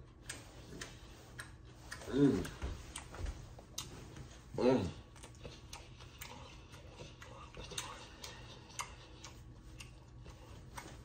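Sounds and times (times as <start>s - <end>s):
mouth clicks and smacks chewing: 0.0s - 3.1s, 5.1s - 11.0s.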